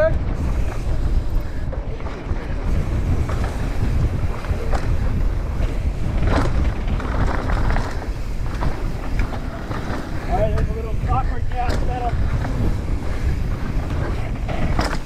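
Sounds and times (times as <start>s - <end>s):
bike knocks and rattles: 0.0s - 15.0s
tyres rumbling on dirt trail: 0.0s - 15.0s
wind buffeting microphone: 0.0s - 15.0s.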